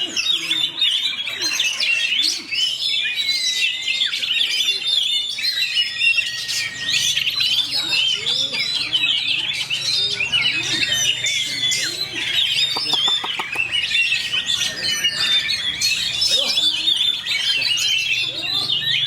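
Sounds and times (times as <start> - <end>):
songbird chirping and whistling: 1.7 - 19.0.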